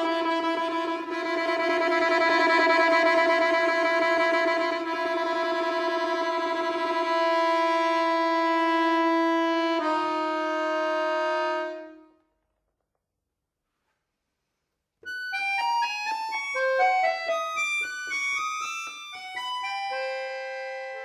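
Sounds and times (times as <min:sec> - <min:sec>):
accordion sustained chords: 0:00.0 - 0:12.2, 0:15.0 - 0:21.0.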